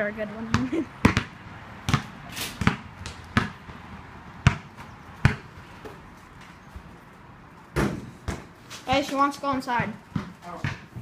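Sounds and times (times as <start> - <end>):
basketball bouncing on concrete: 0.1 - 6.9, 7.6 - 11.0.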